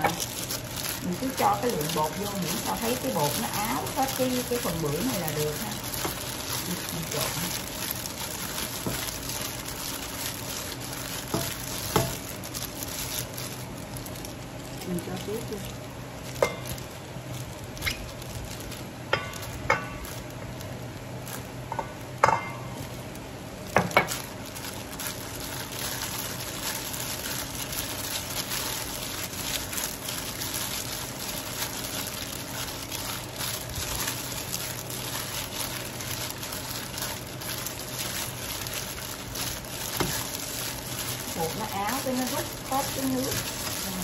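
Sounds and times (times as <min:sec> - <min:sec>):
crinkling plastic glove rustling: 0:00.0 - 0:44.0.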